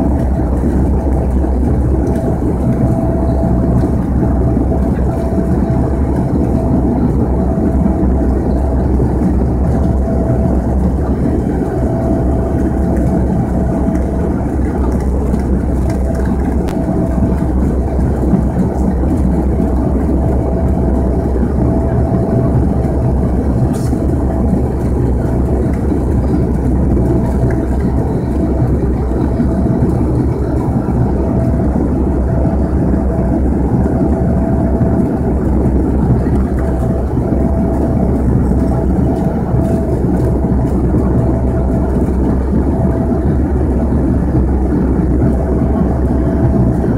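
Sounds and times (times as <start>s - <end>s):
constant hum: 0.0s - 46.9s
propeller plane engine drone: 0.0s - 46.9s.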